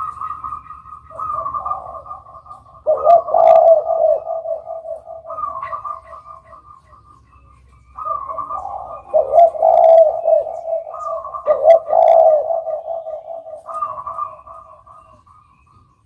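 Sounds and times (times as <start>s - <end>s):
dove cooing: 0.0s - 15.9s.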